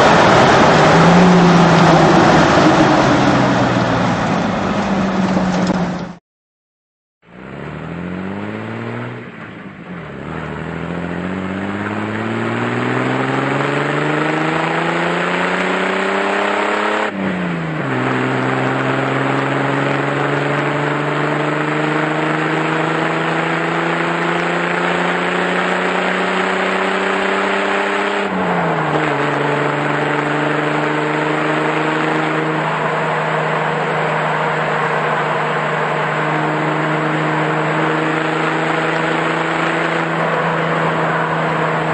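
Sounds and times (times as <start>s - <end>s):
car exhaust accelerating: 0.0s - 6.2s, 7.3s - 41.9s.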